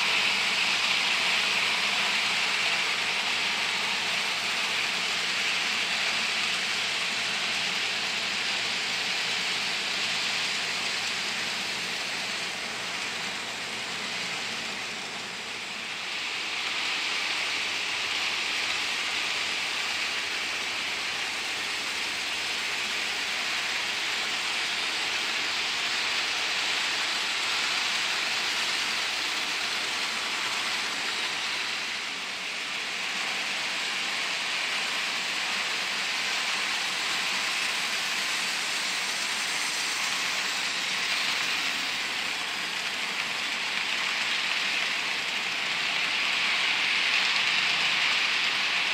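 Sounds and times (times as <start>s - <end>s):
model train rolling on track: 0.0s - 48.9s.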